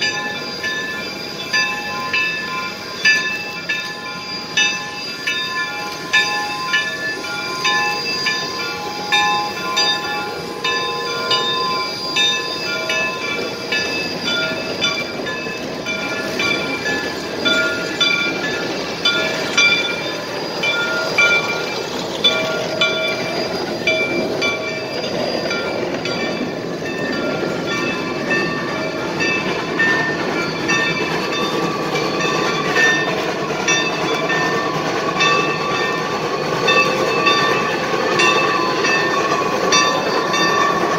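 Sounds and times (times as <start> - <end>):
steam locomotive rumble: 0.0 - 40.9.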